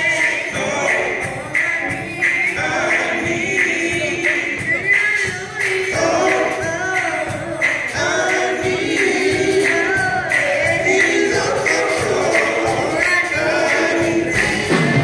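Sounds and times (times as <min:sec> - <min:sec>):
group singing in harmony: 0:00.0 - 0:15.0
live band with drum beat: 0:00.0 - 0:15.0.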